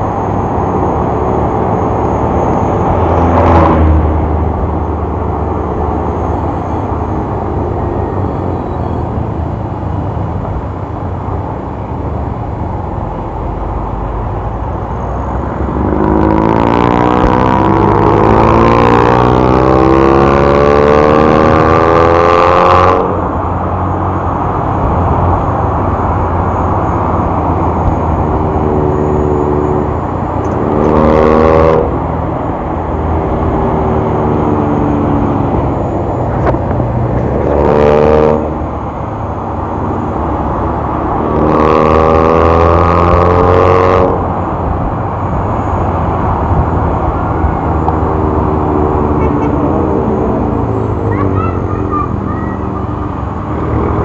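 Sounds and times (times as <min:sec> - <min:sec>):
engine revving: 0:00.0 - 0:09.2, 0:15.3 - 0:23.4, 0:25.4 - 0:54.0
road and wind noise: 0:00.0 - 0:54.0.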